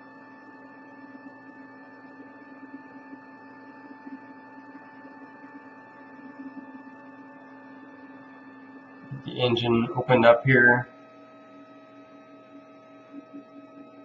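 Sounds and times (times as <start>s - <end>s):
electrical hum: 0.0s - 14.0s
faint whine tones: 0.0s - 14.0s.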